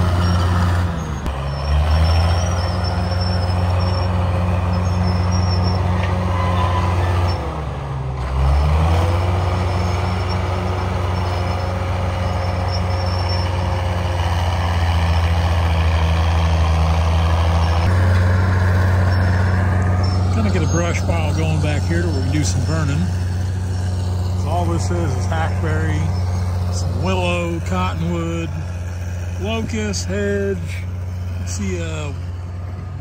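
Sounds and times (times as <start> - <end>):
bulldozer diesel engine working: 0.0 - 33.0.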